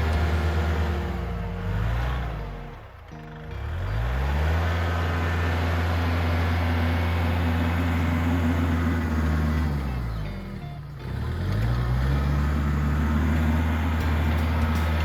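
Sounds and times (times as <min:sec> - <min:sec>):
tractor engine revving: 0:00.0 - 0:15.0.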